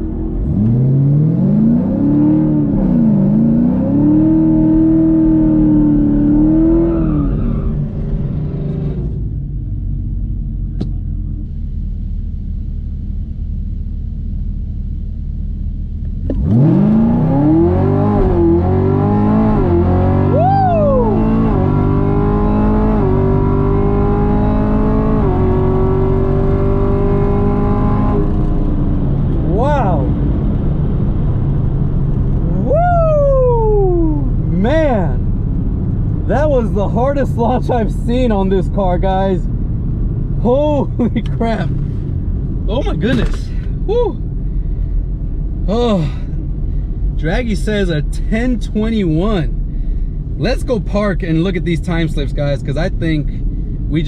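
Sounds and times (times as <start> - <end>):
car engine revving: 0.0 - 9.6, 16.0 - 54.0.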